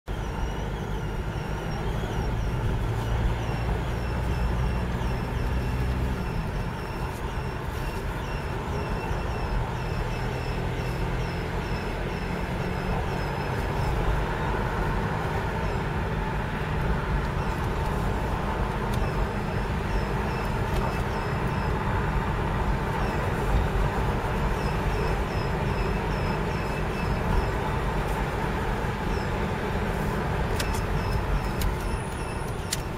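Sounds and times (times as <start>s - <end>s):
diesel engine running: 0.1s - 32.9s.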